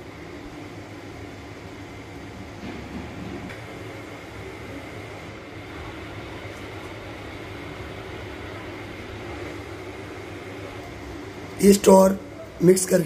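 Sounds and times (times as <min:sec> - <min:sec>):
low humming and rumbling: 0:00.0 - 0:13.0.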